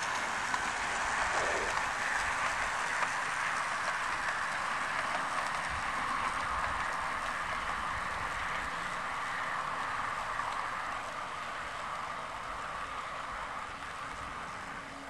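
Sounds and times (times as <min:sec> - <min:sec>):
model train whirring on rails: 0:00.0 - 0:15.0.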